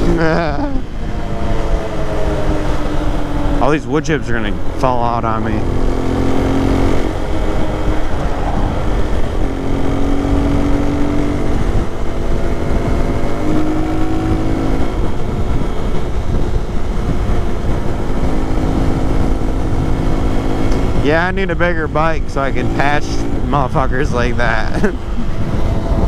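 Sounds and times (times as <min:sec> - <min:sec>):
low wind rumble: 0:00.0 - 0:26.0
motorcycle engine running: 0:00.0 - 0:26.0.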